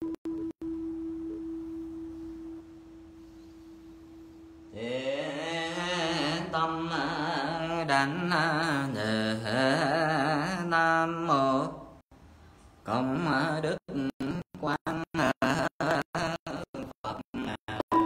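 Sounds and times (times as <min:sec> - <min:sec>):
person chanting: 0:01.8 - 0:12.0, 0:12.8 - 0:18.0.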